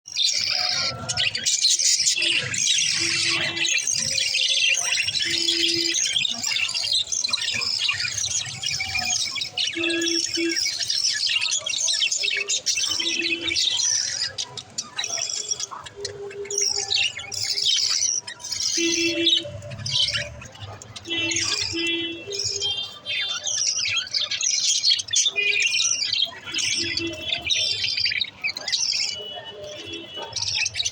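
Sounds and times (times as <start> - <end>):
budgerigars chirping and chattering: 0.1 - 30.9.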